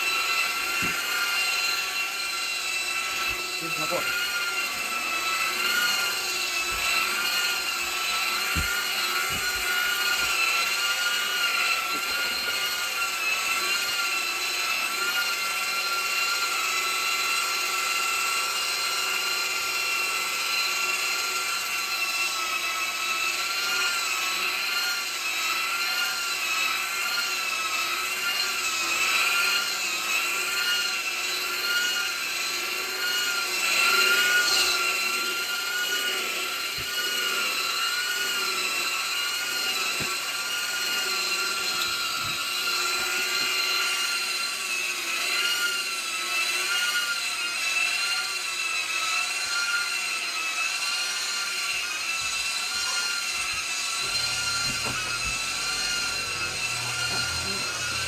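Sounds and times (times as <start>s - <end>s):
vacuum cleaner motor whining: 0.0s - 58.0s.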